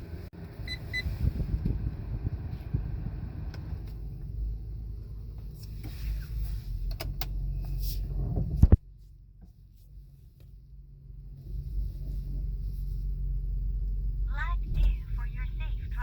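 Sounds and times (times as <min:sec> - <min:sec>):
car rumble inside cabin: 0:00.0 - 0:16.0.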